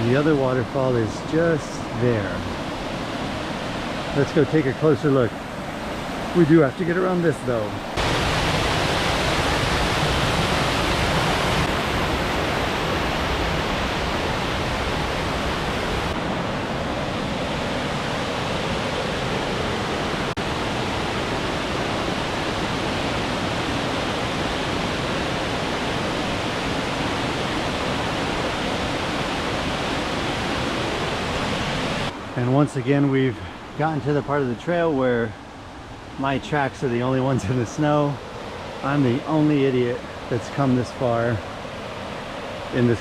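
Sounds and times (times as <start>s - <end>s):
waterfall rushing: 0.0s - 32.4s, 33.4s - 43.0s.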